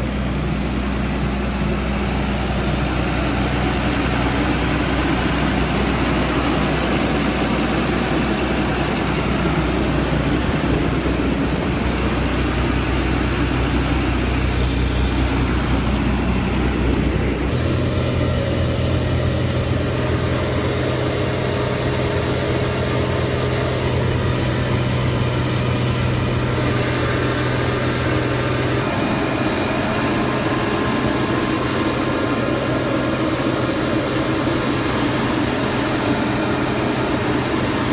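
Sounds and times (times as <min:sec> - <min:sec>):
bagging machine engine droning: 0:00.0 - 0:37.9.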